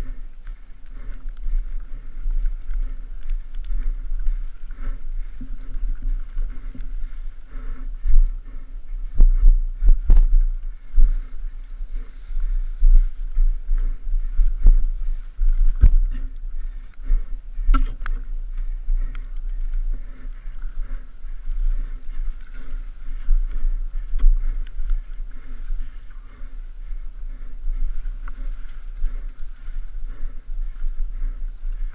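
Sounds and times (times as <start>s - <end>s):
wind rumbling on microphone: 0.0s - 31.9s.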